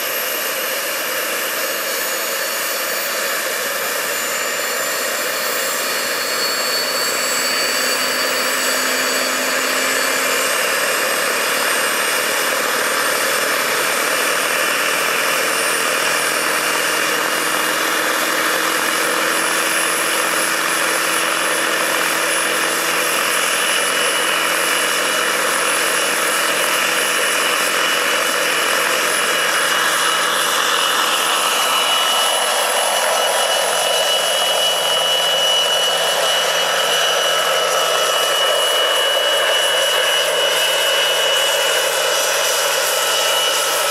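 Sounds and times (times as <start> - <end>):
rotor and exhaust rush: 0.0 - 43.9
turbine whine: 0.0 - 43.9.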